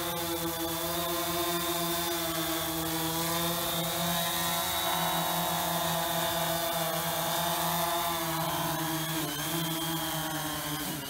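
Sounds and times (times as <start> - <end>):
quadcopter propellers whining: 0.0 - 11.0.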